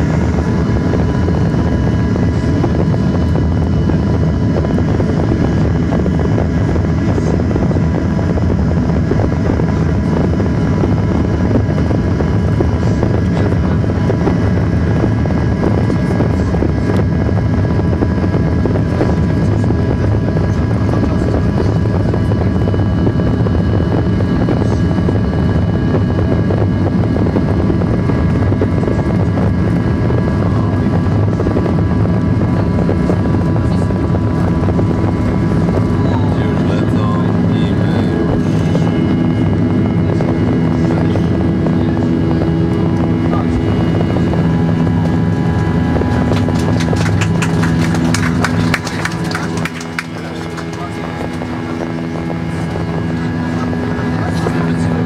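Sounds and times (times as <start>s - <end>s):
aircraft cabin engine drone: 0.0s - 55.0s.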